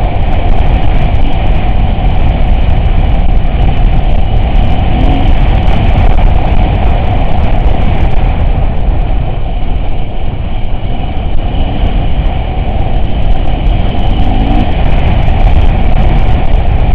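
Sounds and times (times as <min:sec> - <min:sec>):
off-road vehicle rumbling: 0:00.0 - 0:16.9.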